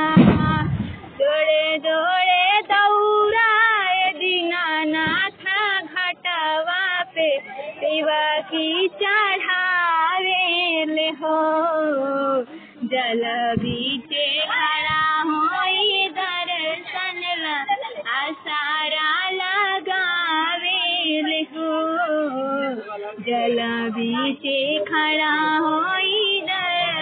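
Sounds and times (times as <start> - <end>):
woman singing: 0.0 - 27.0.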